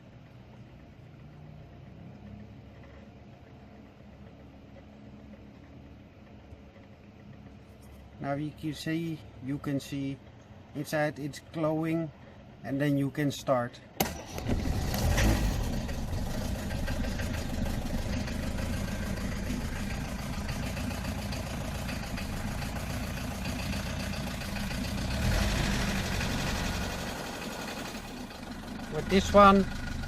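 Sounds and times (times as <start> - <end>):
diesel engine starting and idling: 0.0 - 12.6, 13.8 - 30.0.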